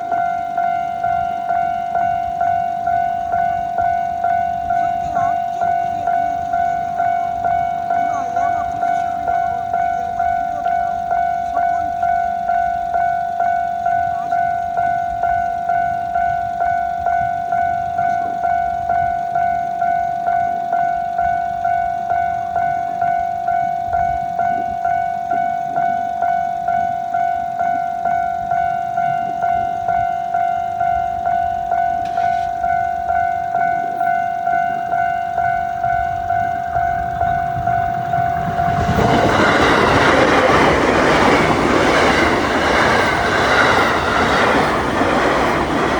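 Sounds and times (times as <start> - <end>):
railroad crossing bell ringing: 0.0 - 45.9
train passing: 0.0 - 45.9.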